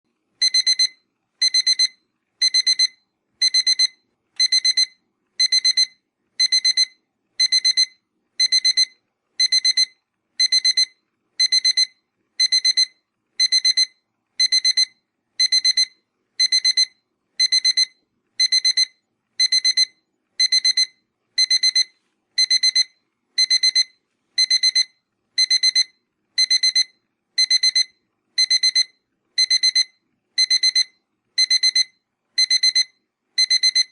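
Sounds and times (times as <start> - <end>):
alarm clock beeping: 0.4 - 33.9.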